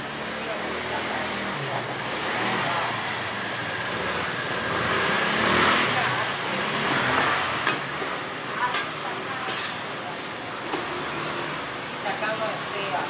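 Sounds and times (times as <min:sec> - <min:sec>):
market background noise: 0:00.0 - 0:13.0.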